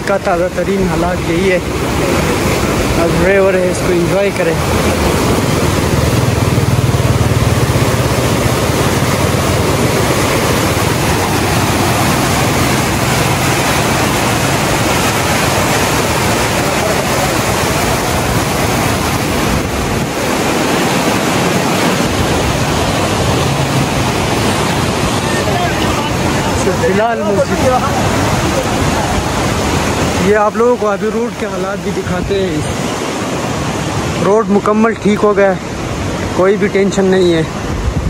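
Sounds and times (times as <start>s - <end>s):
river rushing through rapids: 0.0s - 38.0s.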